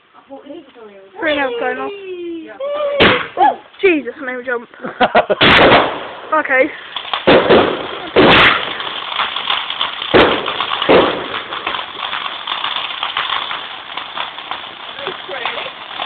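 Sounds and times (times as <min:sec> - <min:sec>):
fireworks crackling: 0:00.0 - 0:16.0
fireworks bangs: 0:00.5 - 0:04.0, 0:05.0 - 0:16.0.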